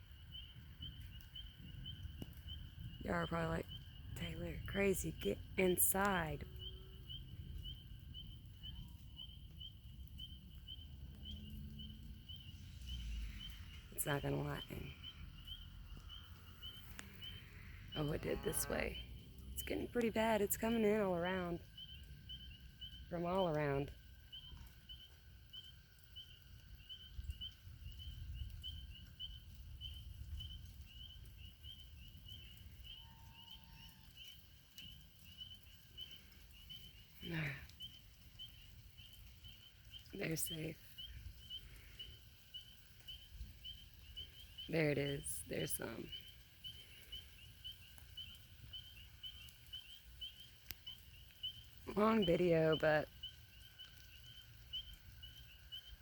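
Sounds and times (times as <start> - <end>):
spring peepers calling: 0.0 - 56.0.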